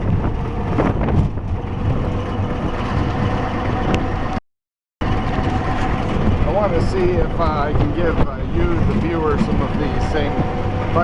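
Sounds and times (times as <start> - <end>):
road rumble: 0.0 - 4.4, 5.0 - 11.0.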